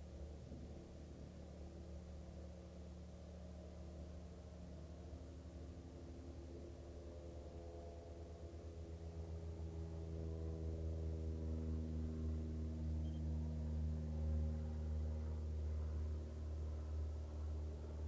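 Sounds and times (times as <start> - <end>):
small aircraft engine droning: 0.0 - 18.0.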